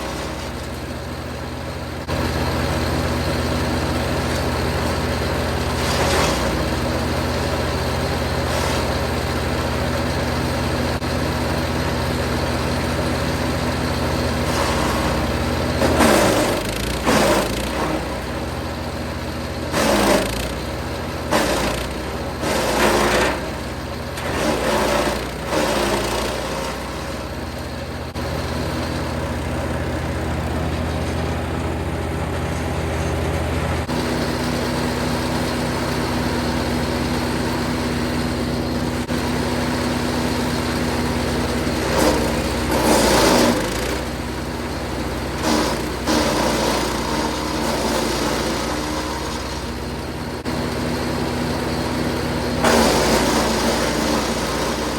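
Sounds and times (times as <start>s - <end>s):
wood chipper running: 0.0s - 54.9s.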